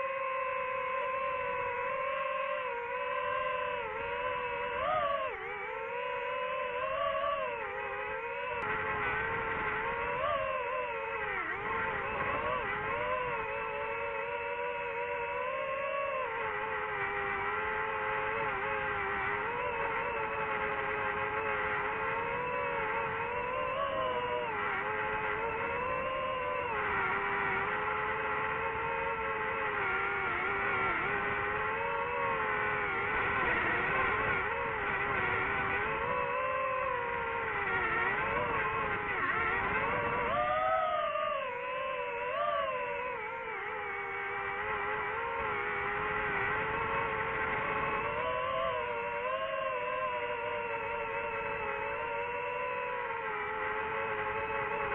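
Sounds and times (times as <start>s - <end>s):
drone propellers whining: 0.0s - 54.9s.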